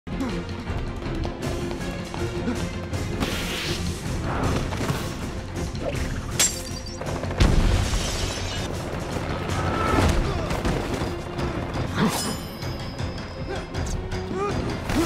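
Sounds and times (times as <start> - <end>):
action film music: 0.1 - 15.0.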